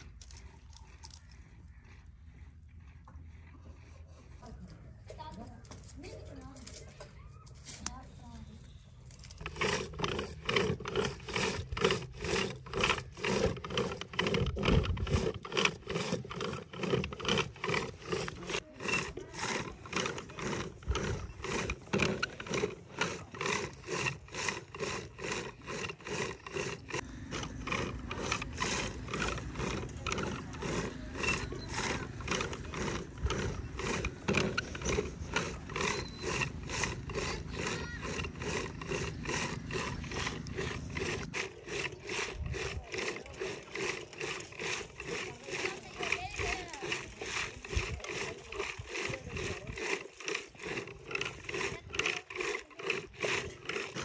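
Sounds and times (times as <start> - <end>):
butter churn strokes creaking: 0.0 - 54.0.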